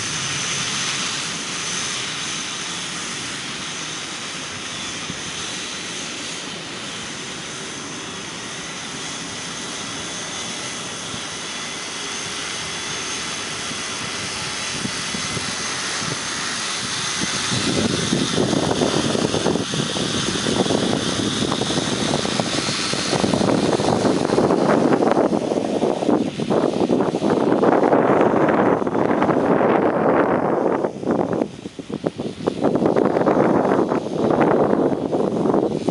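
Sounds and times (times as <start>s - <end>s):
drone propellers whirring: 0.0s - 35.9s
rough rushing noise: 0.0s - 35.9s.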